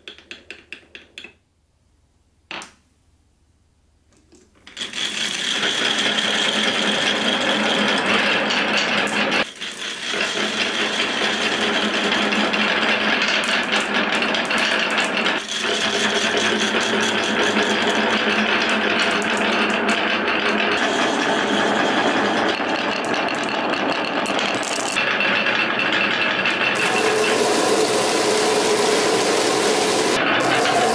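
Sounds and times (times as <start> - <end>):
marbles clattering on wooden tracks: 4.6 - 30.9.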